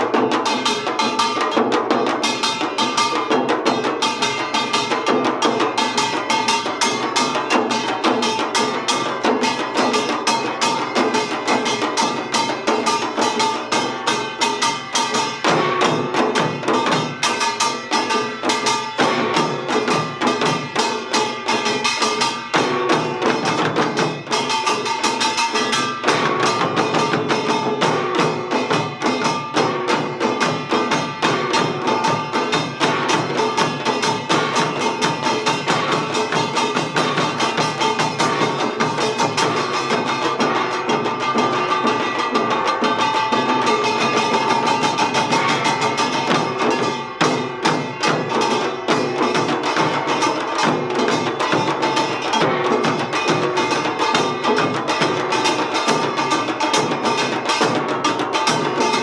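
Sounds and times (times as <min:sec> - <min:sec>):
fast dense drumming: 0:00.0 - 0:59.0.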